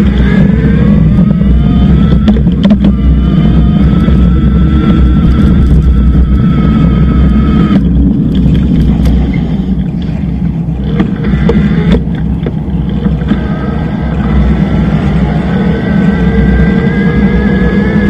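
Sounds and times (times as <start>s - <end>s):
road rumble: 0.0s - 18.0s
sharp clicks and rattles: 0.0s - 18.0s
steady high whine: 0.0s - 18.0s
wind buffeting: 0.0s - 18.0s.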